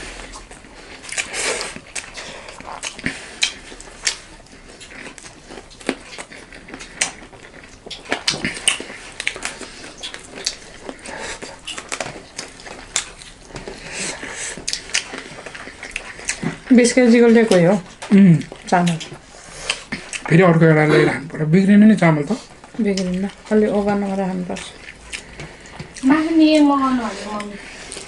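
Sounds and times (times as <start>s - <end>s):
chewing with wet mouth smacks: 0.0s - 28.0s.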